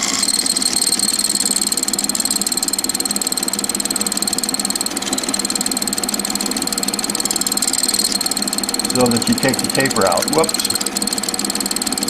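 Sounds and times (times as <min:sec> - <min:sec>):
small lathe whining: 0:00.0 - 0:12.0.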